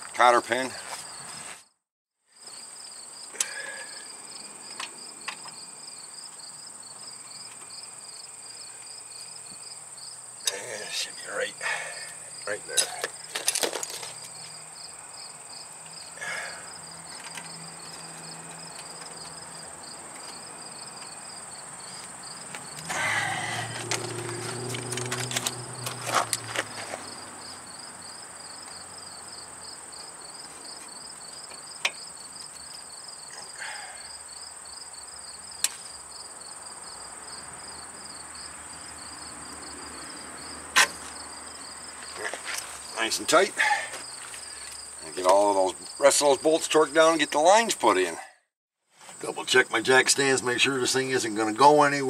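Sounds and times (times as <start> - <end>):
insects chirping: 0.5 - 1.7, 2.3 - 48.2, 49.0 - 52.0.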